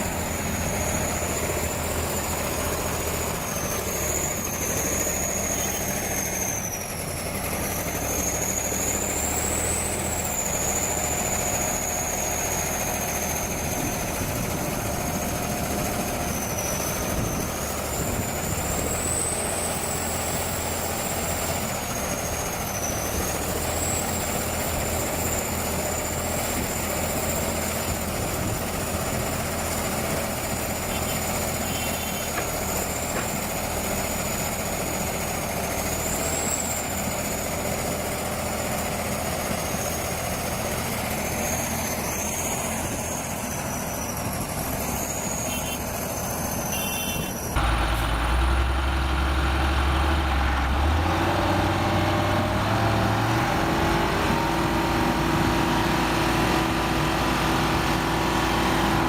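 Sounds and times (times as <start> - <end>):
heavy vehicle engine running: 0.0 - 59.0.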